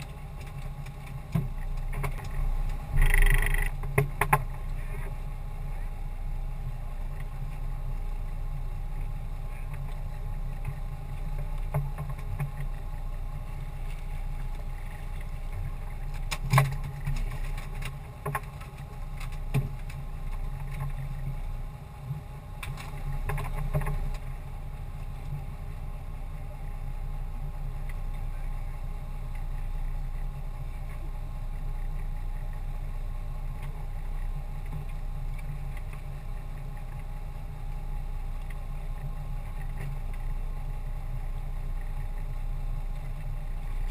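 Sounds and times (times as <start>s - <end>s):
small fishing boat on calm water: 0.0s - 43.9s.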